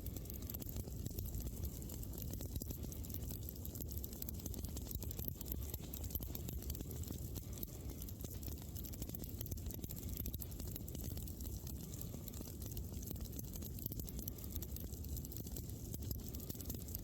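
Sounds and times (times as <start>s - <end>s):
campfire flames rushing: 0.0s - 17.0s
fire crackling and popping: 0.0s - 17.0s.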